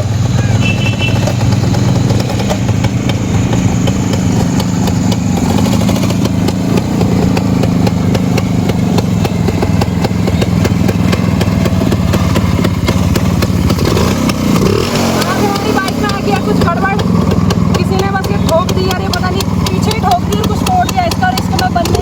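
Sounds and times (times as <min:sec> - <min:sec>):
two-stroke engine running: 0:00.0 - 0:22.0.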